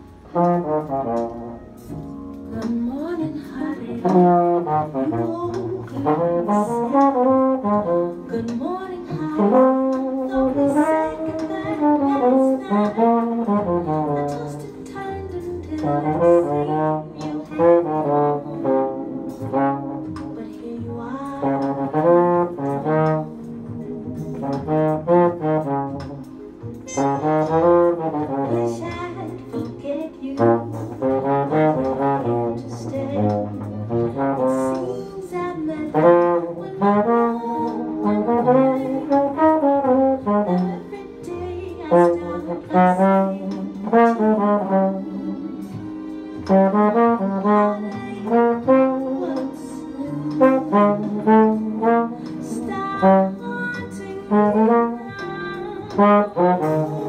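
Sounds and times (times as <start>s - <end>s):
solo brass horn jazz phrases: 0.0s - 57.0s.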